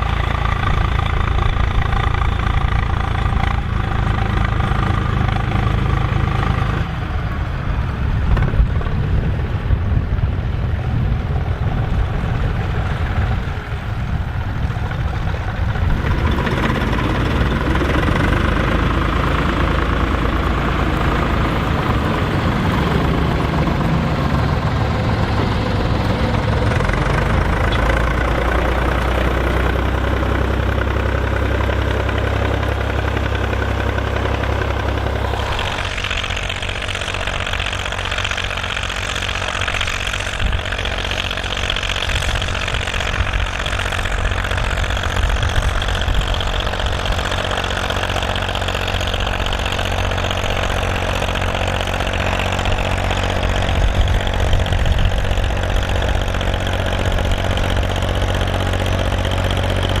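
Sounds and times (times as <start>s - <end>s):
tractor diesel engine: 0.0s - 60.0s.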